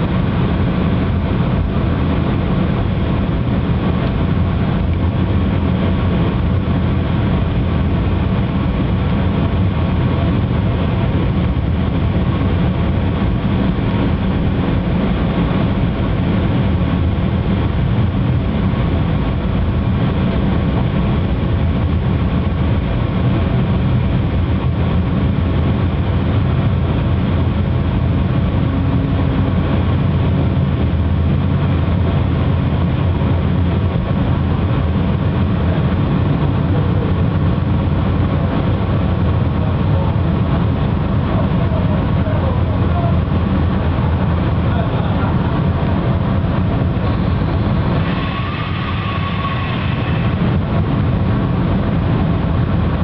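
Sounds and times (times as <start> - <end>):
train rumbling on track: 0.0 - 53.0.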